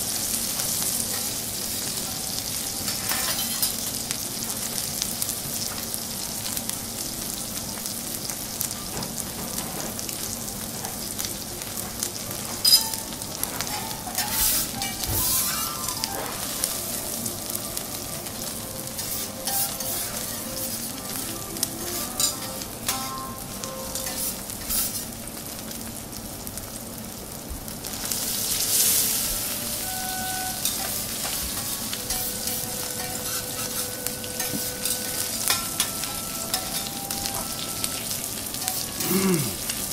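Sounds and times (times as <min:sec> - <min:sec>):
steak sizzling on a griddle: 0:00.0 - 0:39.9.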